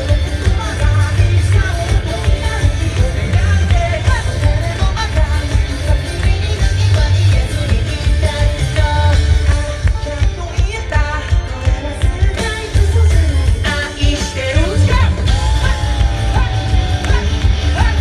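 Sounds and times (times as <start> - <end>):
men singing: 0.0 - 9.7, 10.8 - 18.0
bass guitar: 0.0 - 18.0
drums: 0.0 - 18.0
electric guitar: 0.0 - 18.0.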